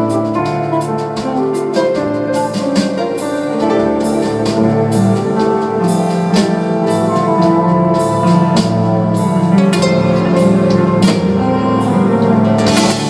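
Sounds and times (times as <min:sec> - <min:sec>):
drums steady beat: 0:00.0 - 0:13.0
live band playing pop: 0:00.0 - 0:13.0
guitar: 0:01.1 - 0:13.0.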